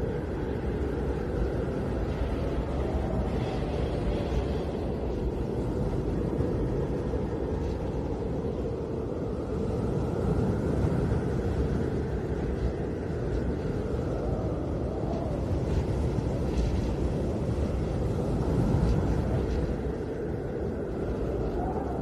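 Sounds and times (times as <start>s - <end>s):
faint wind whistle: 0.0s - 22.0s
wind rushing rumble: 0.0s - 22.0s.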